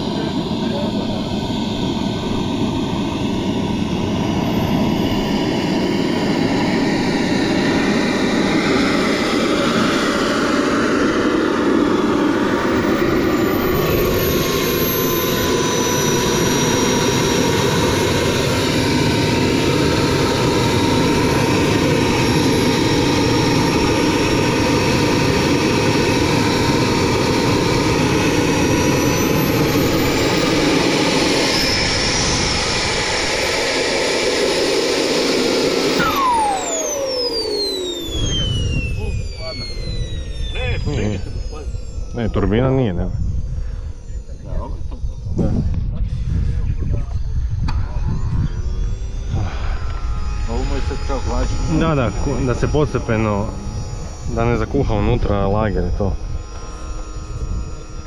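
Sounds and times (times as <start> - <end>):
model jet turbine roaring: 0.0 - 58.0.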